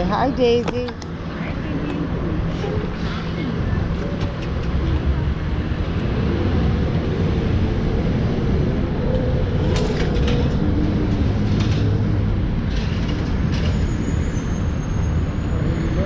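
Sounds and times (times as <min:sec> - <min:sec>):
bus passing close by: 0:00.4 - 0:16.0.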